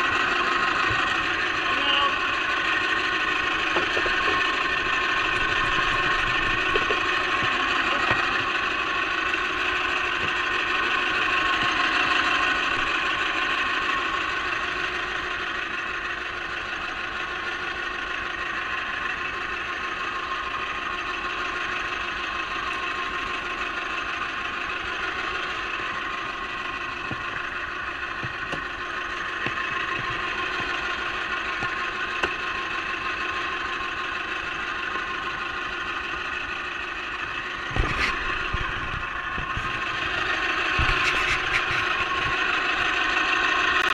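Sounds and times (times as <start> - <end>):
boat engine droning: 0.0 - 43.9.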